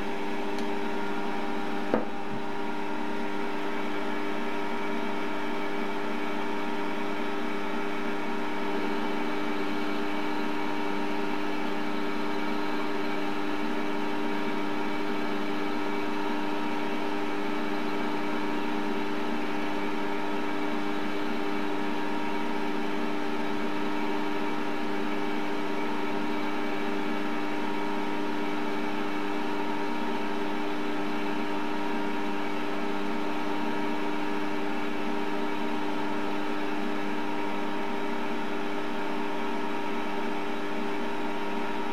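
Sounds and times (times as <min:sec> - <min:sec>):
lathe motor whine: 0:00.0 - 0:41.9.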